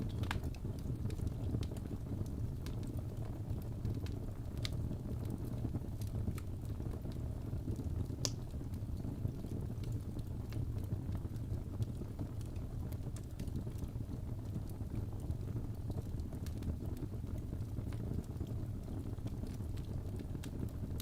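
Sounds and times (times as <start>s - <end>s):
fire crackling: 0.0s - 21.0s
low rumble of flames: 0.0s - 21.0s.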